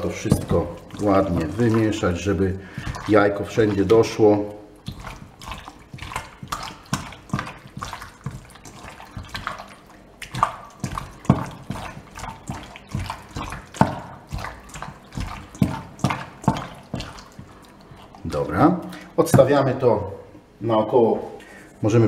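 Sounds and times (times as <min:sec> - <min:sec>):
hand squelching raw chicken: 0:00.0 - 0:19.6.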